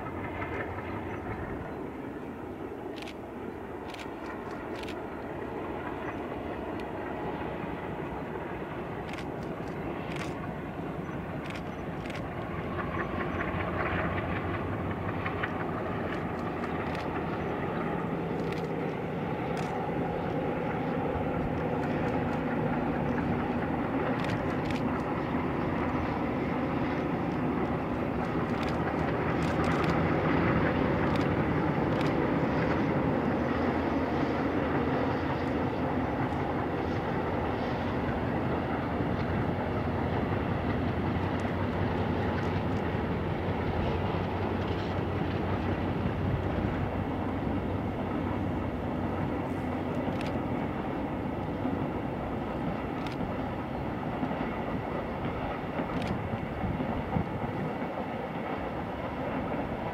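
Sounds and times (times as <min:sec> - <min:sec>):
locomotive engines droning: 0:00.0 - 0:59.9
wagons rumbling on rails: 0:00.0 - 0:59.9.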